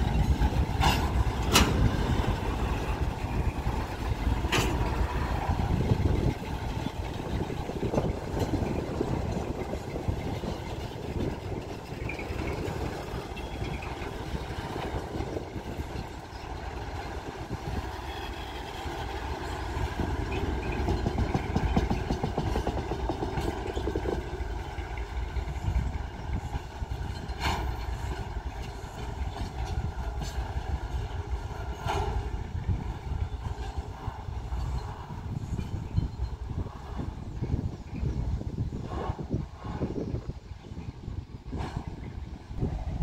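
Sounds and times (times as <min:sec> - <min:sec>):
diesel locomotive engine: 0:00.0 - 0:43.0
train wheels rumbling on rails: 0:00.0 - 0:43.0.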